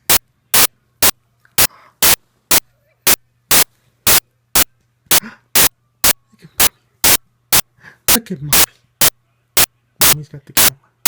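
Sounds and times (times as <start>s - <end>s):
static noise bursts: 0.0s - 10.8s
faint low hum: 0.0s - 11.0s.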